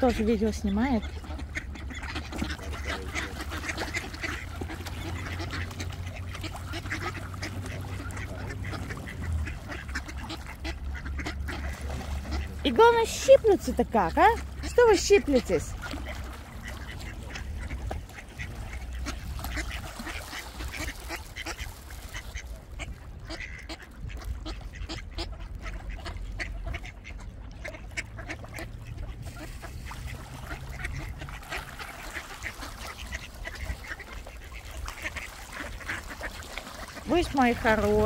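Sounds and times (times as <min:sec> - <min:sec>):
ducks quacking: 0:00.0 - 0:38.0.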